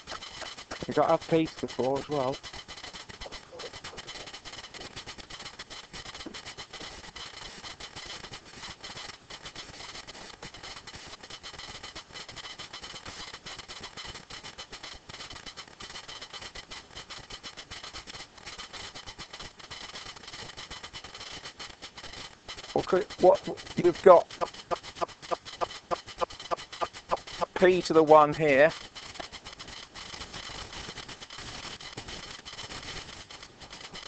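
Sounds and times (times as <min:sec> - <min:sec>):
fine crackle: 0:00.0 - 0:34.0.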